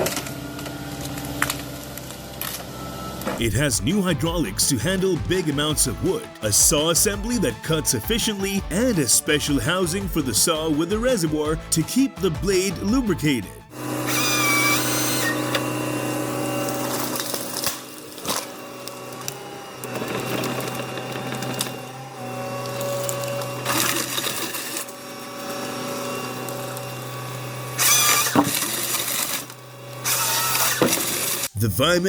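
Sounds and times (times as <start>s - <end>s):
saw cutting: 5.0s - 31.6s.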